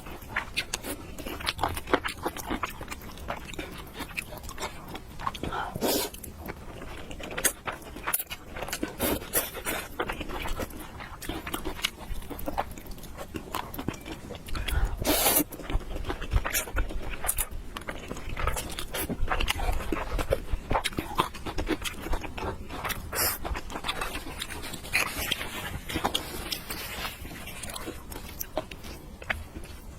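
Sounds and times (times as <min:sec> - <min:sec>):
person chewing with wet smacks: 0:00.0 - 0:29.9.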